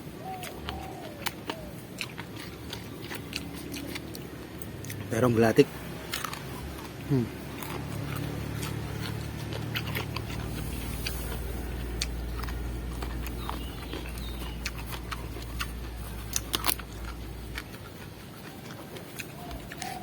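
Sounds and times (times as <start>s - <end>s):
mouth crunching raw eggplant: 0.0s - 20.0s
steady low hum: 0.0s - 20.0s.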